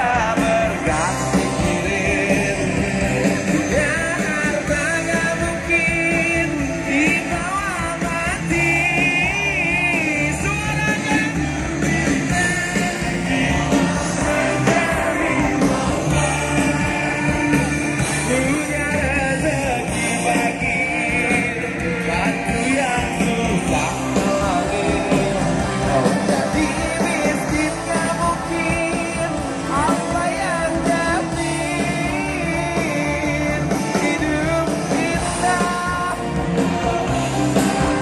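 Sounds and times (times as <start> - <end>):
live pop band over loudspeakers: 0.0 - 38.0
person singing: 0.0 - 38.0.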